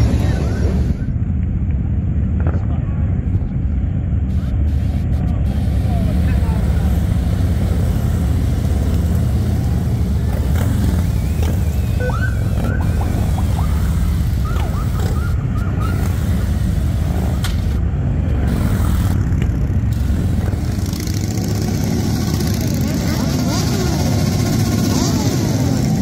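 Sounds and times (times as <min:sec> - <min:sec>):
motorcycle engines running: 0:00.0 - 0:26.0.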